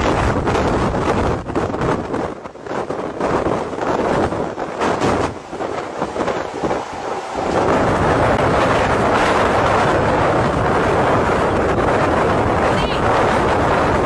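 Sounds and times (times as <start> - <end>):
storm wind: 0.0 - 14.0.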